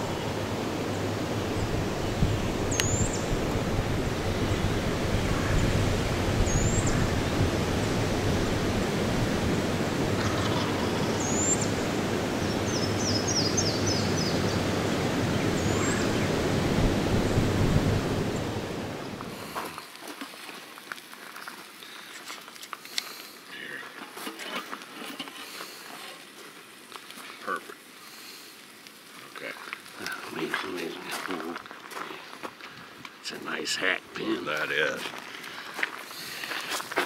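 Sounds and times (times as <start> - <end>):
rushing outdoor noise: 0.0 - 37.0.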